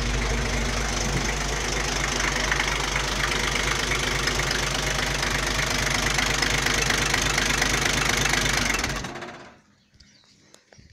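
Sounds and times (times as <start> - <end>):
diesel engine idling: 0.0 - 9.7.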